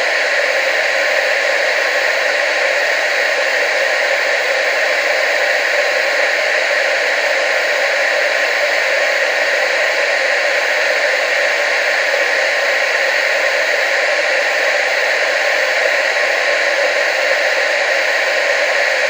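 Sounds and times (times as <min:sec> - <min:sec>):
television static hiss: 0:00.0 - 0:19.0.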